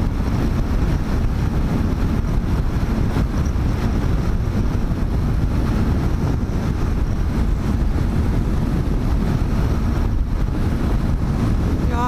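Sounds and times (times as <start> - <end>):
motorcycle running: 0.0 - 12.0
wind rushing over microphone: 0.0 - 12.0.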